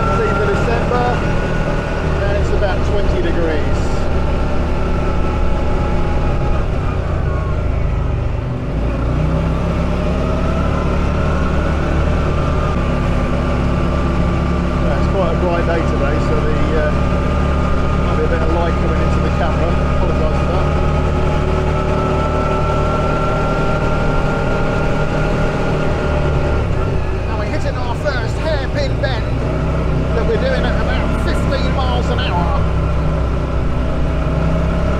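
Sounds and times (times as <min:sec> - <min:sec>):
buggy engine running: 0:00.0 - 0:34.9.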